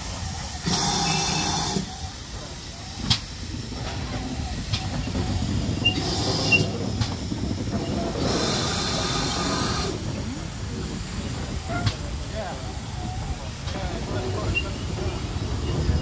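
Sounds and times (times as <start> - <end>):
steam hissing: 0.0 - 16.0
train wheels rumbling on track: 0.0 - 16.0.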